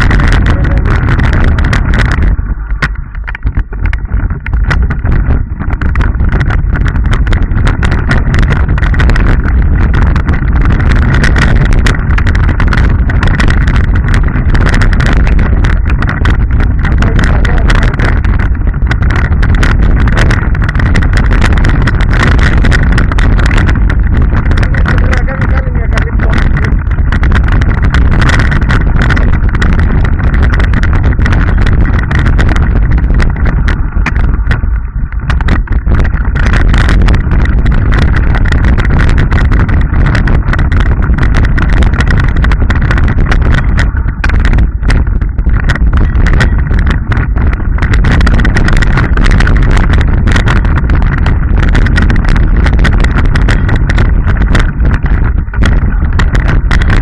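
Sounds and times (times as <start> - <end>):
bike rattling and knocking: 0.0 - 57.0
mountain bike rumbling on rocky trail: 0.0 - 57.0.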